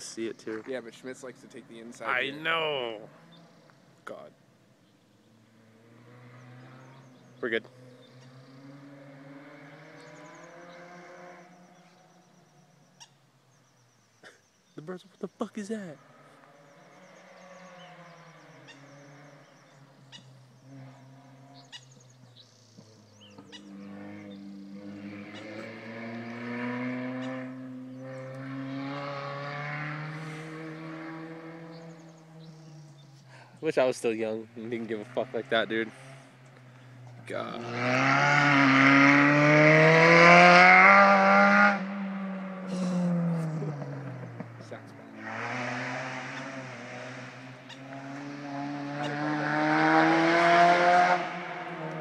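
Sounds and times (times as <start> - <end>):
distant car accelerating hard: 0.0 - 52.0.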